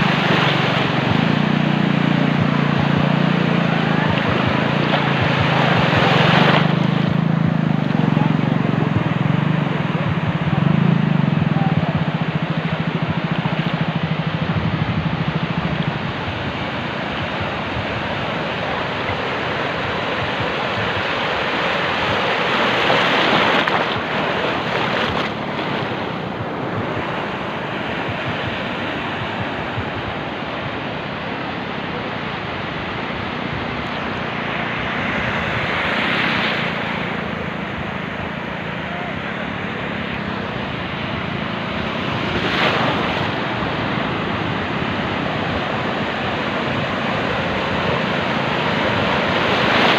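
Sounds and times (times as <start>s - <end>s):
surf washing onto beach: 0.0s - 49.9s
wind on microphone: 0.0s - 49.9s.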